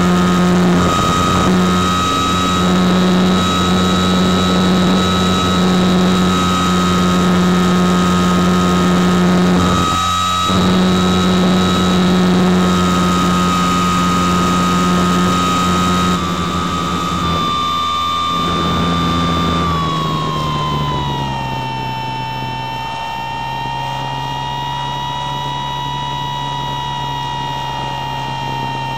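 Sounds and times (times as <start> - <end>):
model plane motor whining: 0.0 - 28.9.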